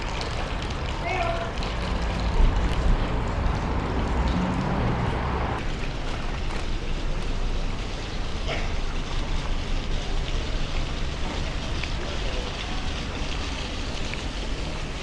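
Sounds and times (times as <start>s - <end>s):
fountain water splashing: 0.0s - 15.0s
street noise: 0.0s - 15.0s.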